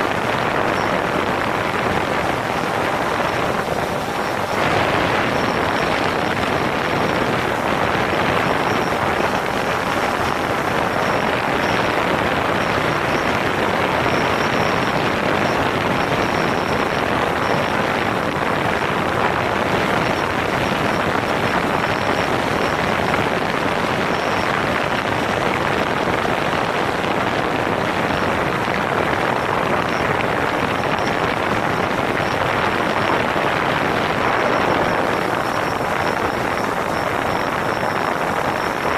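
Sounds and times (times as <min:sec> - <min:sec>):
drone motors and propellers: 0:00.0 - 0:38.9.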